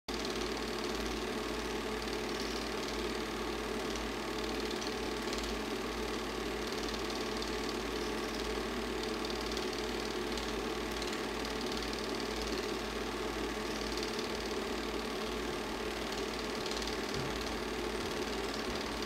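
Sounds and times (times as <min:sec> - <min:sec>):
film projector whirring and clattering: 0:00.1 - 0:19.0.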